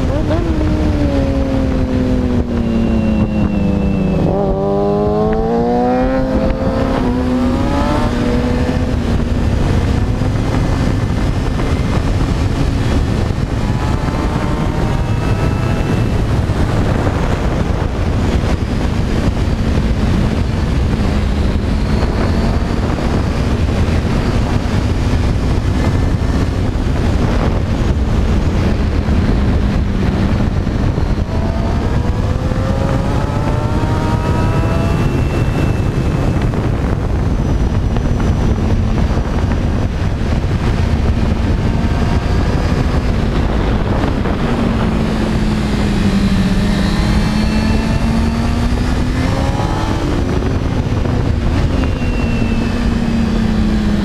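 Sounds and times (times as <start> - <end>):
motorcycle engine revving: 0.0 - 54.0
wind rushing on microphone: 0.0 - 54.0.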